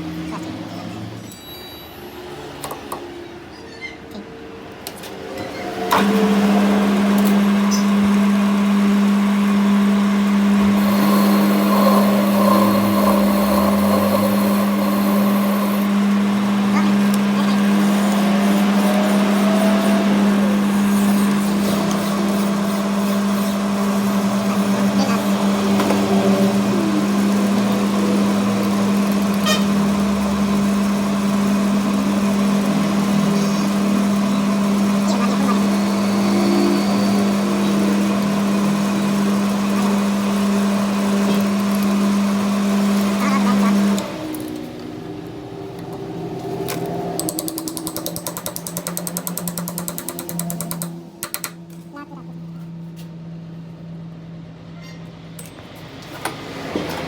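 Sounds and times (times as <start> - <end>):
engine droning: 4.6 - 57.0
machine humming: 5.2 - 54.7.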